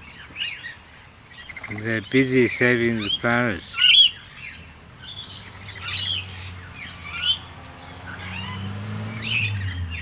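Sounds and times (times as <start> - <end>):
birds squawking: 0.0 - 10.0.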